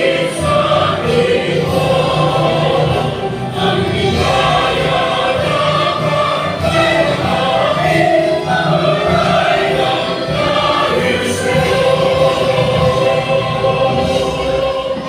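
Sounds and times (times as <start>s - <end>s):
choir singing gospel song: 0.0s - 15.0s.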